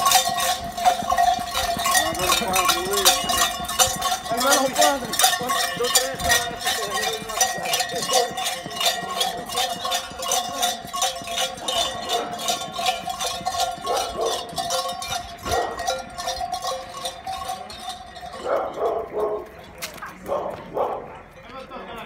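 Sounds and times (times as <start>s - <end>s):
metal cowbells clanking: 0.0s - 19.9s.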